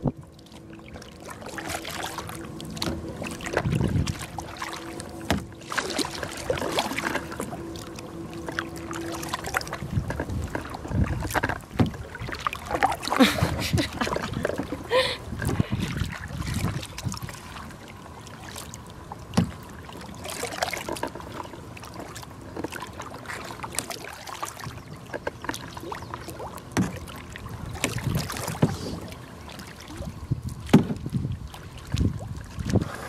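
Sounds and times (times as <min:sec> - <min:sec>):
paddle splashing in water: 0:00.0 - 0:33.0.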